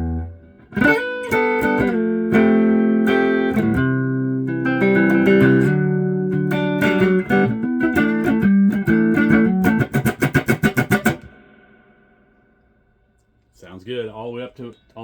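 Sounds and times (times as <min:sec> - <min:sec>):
electric guitar with reverb: 0:00.0 - 0:12.6.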